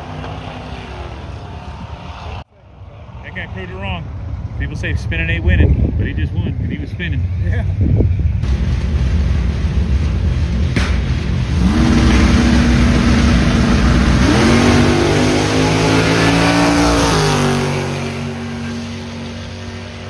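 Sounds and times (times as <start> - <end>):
drag car engine rumbling: 0.0 - 20.0.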